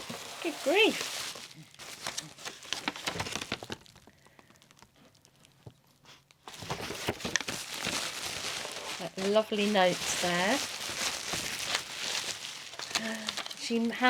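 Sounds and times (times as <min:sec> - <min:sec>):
packaging crinkling and rustling: 0:00.0 - 0:05.7, 0:06.4 - 0:14.0.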